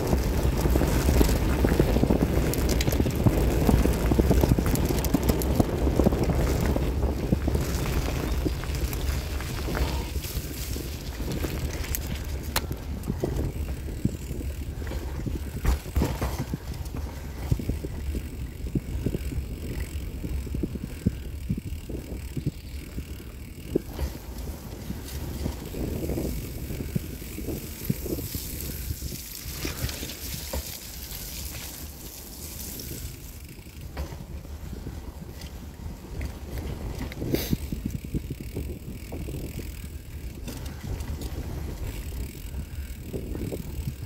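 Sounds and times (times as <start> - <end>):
bicycle rumbling on dirt track: 0.0 - 44.0
bike knocks and rattles: 0.0 - 44.0.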